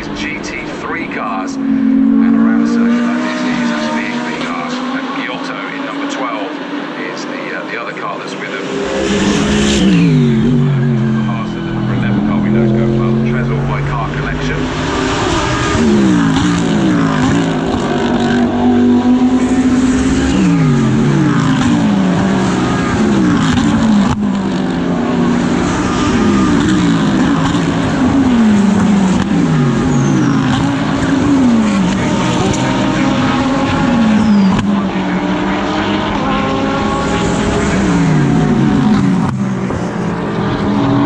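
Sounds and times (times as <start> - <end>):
race car engine downshifting: 0.0 - 41.0.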